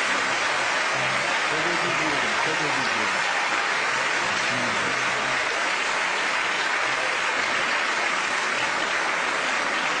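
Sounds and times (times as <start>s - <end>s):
studio audience applauding: 0.0s - 10.0s.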